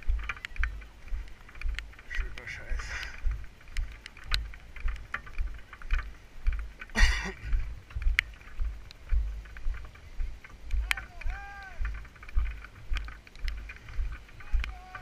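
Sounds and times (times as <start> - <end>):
footsteps thudding: 0.0 - 15.0
light clicks: 0.0 - 15.0.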